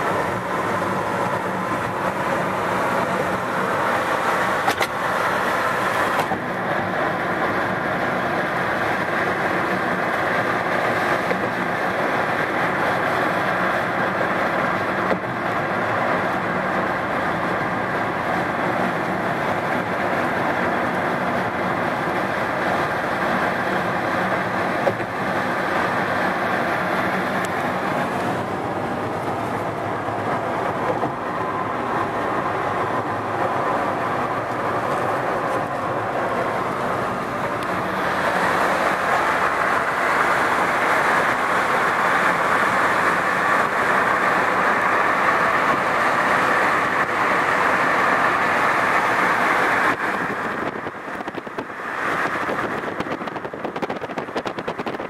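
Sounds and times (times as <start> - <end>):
car road noise: 0.0 - 55.0.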